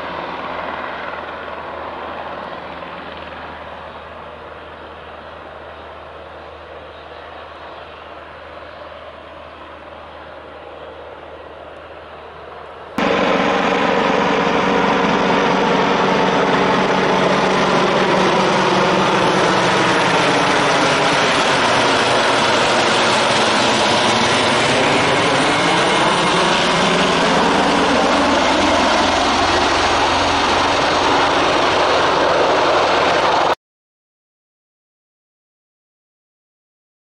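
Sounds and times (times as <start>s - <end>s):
helicopter flying low overhead: 0.0s - 33.6s.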